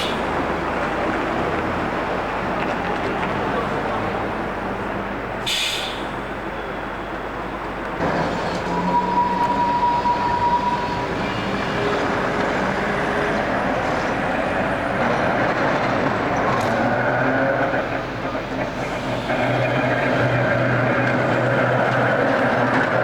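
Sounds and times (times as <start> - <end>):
road or rail noise: 0.0 - 23.0.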